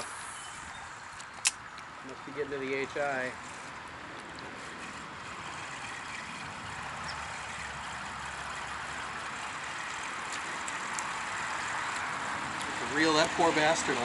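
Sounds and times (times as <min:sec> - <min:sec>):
flowing stream water: 0:00.0 - 0:14.0.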